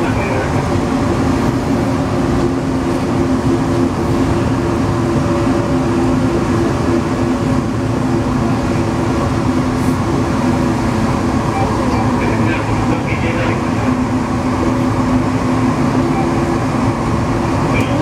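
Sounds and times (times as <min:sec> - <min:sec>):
metro train running: 0:00.0 - 0:18.0.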